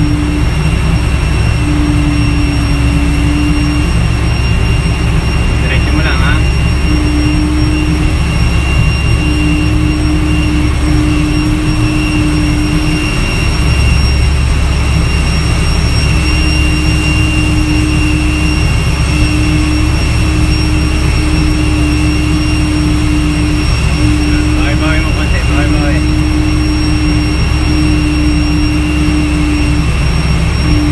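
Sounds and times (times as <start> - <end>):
aircraft tug engine under load: 0.0 - 30.9
humming tone: 0.0 - 30.9
jet turbine whine: 0.0 - 30.9.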